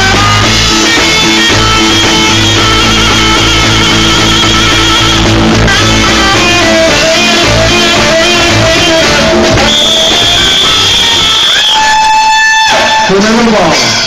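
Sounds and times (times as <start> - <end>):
tenor saxophone melody: 0.0 - 12.4
live band music: 0.0 - 14.0.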